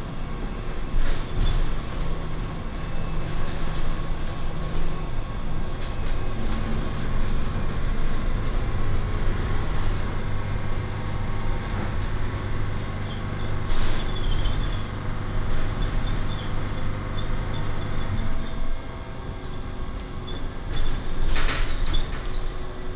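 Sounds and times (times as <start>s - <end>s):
bus hum and road rumble: 0.0s - 22.9s
high electric drive whine: 0.0s - 22.9s.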